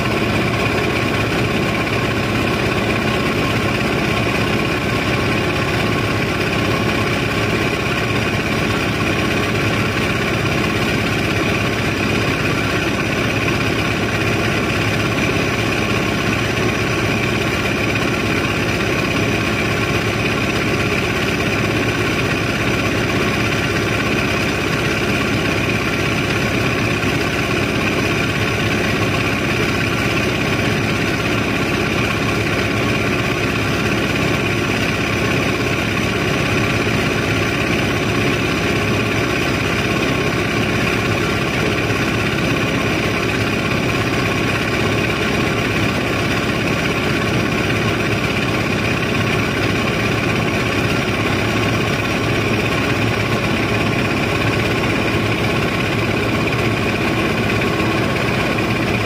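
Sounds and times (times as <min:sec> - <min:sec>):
engine machinery drone: 0:00.0 - 0:59.0.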